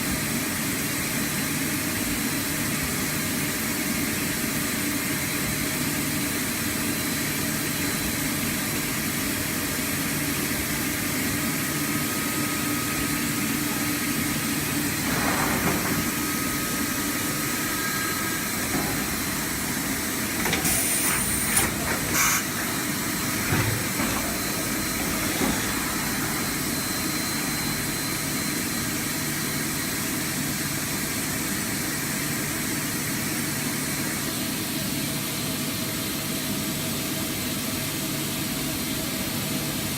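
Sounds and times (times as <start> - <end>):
machine hum with hiss: 0.0 - 39.9.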